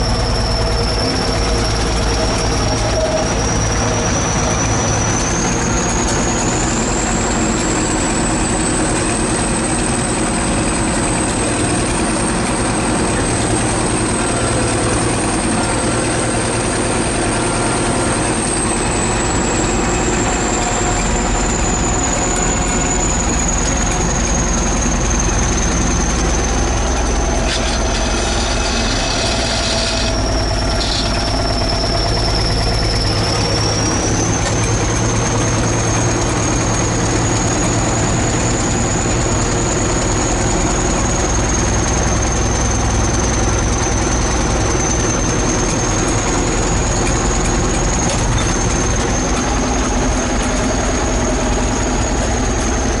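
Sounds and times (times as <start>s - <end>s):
diesel engine drone: 0.0s - 53.0s
high whine: 0.0s - 53.0s.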